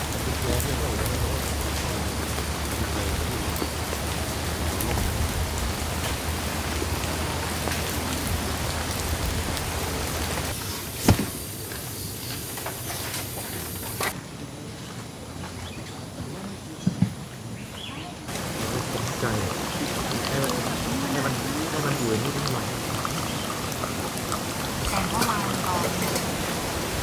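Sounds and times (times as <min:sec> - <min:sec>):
steady rain patter: 0:00.0 - 0:14.2, 0:18.2 - 0:27.0.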